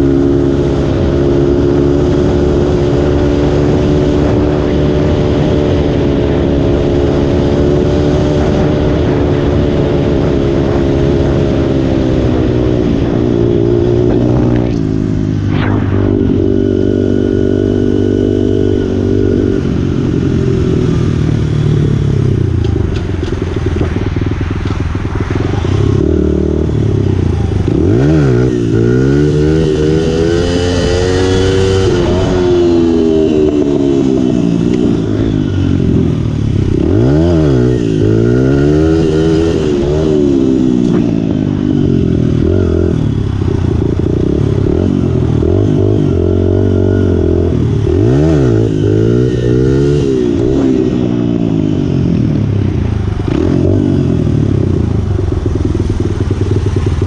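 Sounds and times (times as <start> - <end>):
dirt bike engine revving: 0.0 - 21.5, 25.5 - 57.0.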